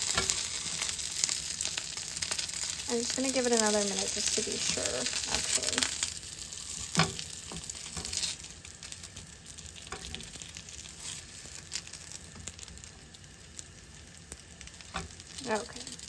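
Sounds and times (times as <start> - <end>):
pancakes sizzling in a pan: 0.0 - 16.0.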